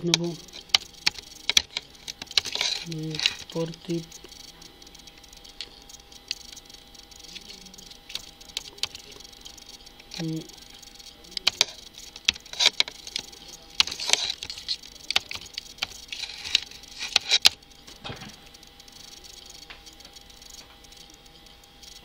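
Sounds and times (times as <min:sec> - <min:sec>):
computer keyboard typing: 0:00.0 - 0:22.0.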